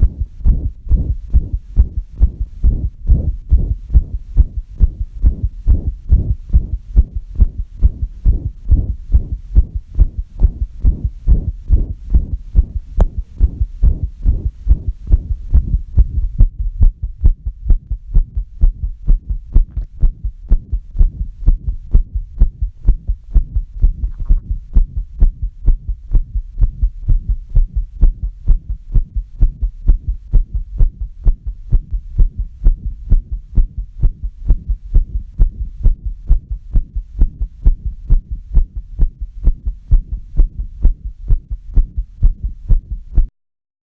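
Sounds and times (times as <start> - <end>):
low deep thumps: 0.0 - 43.3.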